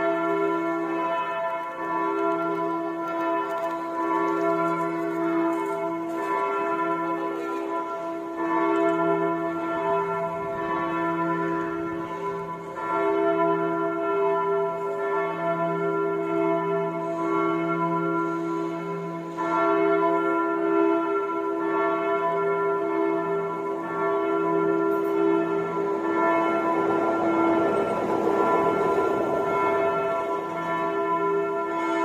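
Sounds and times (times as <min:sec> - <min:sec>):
church bell ringing: 0:00.0 - 0:32.0.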